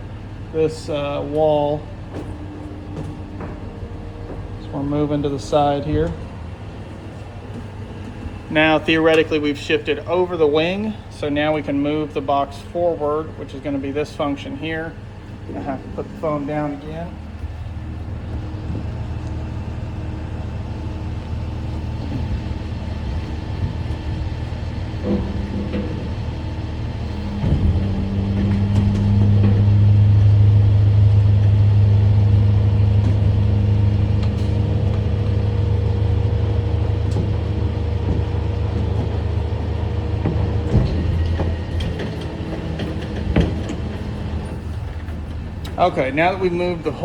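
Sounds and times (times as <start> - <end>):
truck engine with hydraulics droning: 0.0 - 47.0.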